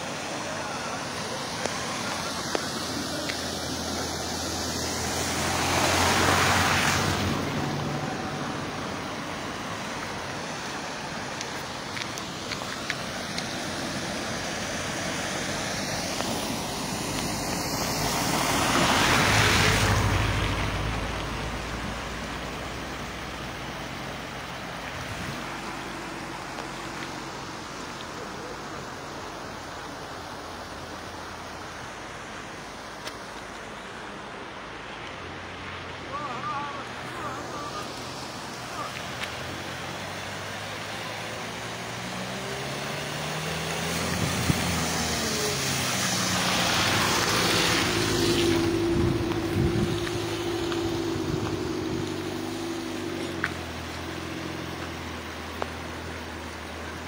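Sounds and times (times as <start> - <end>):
cars driving through floodwater: 0.0 - 57.0.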